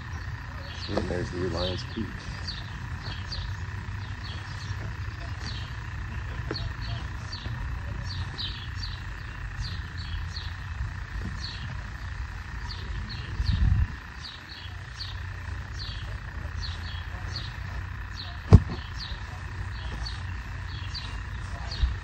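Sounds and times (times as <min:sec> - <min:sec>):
low outdoor rumble: 0:00.0 - 0:22.0
small bird chirping: 0:00.0 - 0:22.0.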